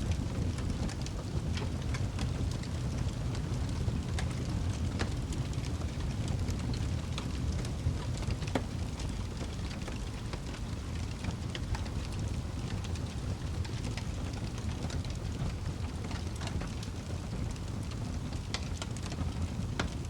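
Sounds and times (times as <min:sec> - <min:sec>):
burning wood crackling: 0:00.0 - 0:20.0
fire flames rumbling: 0:00.0 - 0:20.0.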